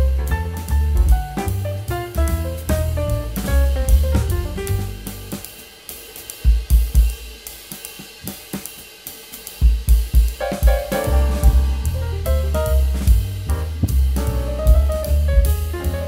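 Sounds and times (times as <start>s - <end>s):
deep kick drum beats: 0.0s - 5.6s, 6.3s - 8.8s, 9.4s - 16.0s
hi-hat and cymbals: 0.0s - 16.0s.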